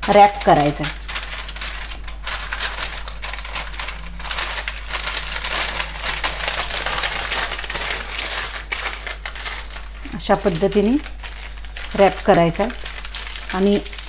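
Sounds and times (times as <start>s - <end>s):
paper crinkling and rustling: 0.0s - 14.0s.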